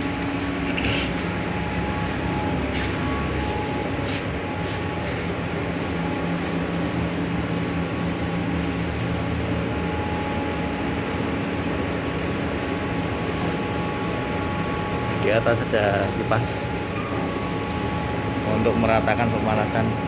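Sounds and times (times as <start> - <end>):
laminating machine humming: 0.0 - 20.0.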